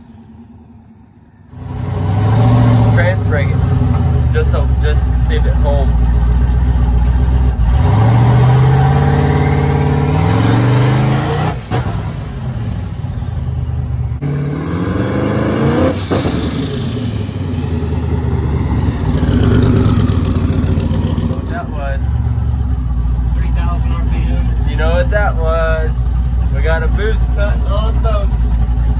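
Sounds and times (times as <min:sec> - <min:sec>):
truck engine accelerating hard: 0:00.0 - 0:28.9.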